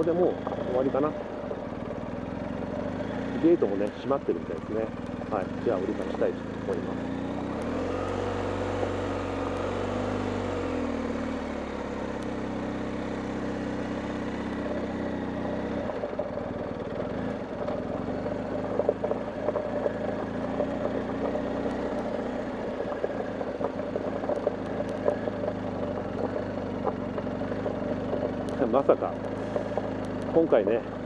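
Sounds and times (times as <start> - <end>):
gravel ticking under tyres: 0.0 - 31.0
motorcycle engine running: 0.0 - 31.0.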